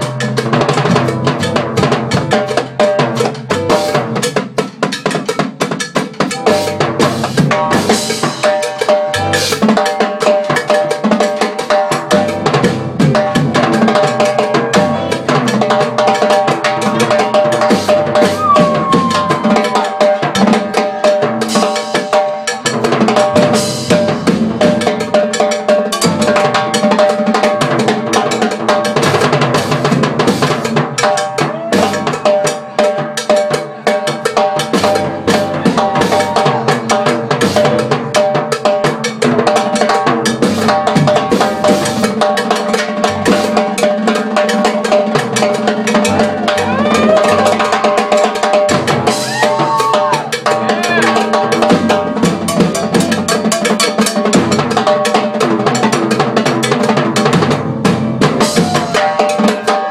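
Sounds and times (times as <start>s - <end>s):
cowbell struck rapidly: 0.0s - 30.0s, 32.1s - 57.5s
congas: 0.0s - 59.9s
drum kit: 0.0s - 59.9s
live band playing fast groove: 0.0s - 59.9s.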